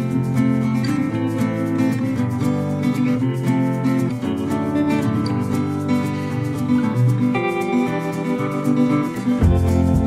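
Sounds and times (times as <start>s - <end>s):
guitar background music: 0.0s - 10.0s.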